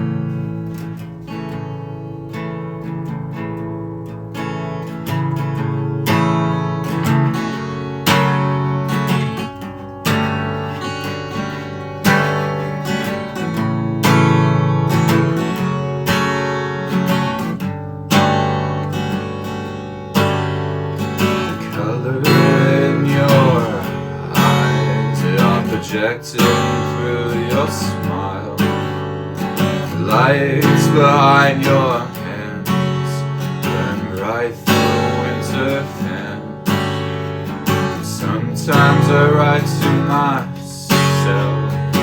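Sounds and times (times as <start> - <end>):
acoustic guitar chords strummed: 0.0 - 42.0.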